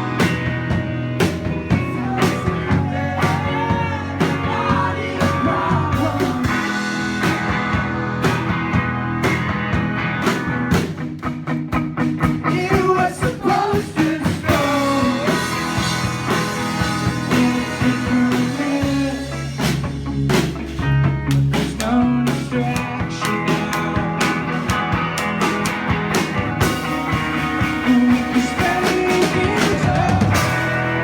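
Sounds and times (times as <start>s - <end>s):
heavy low bass: 0.0s - 31.0s
rock music with singing: 0.0s - 31.0s.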